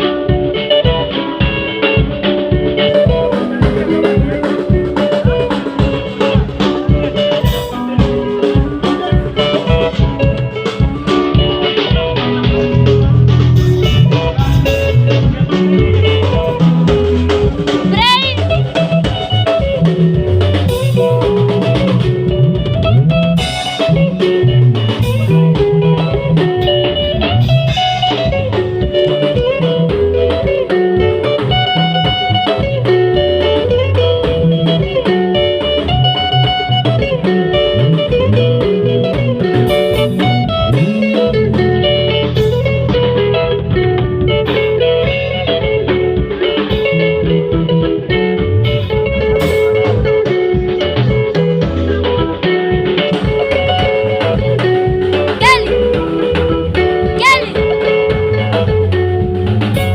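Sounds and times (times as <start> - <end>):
blues-rock band playing: 0.0 - 59.9.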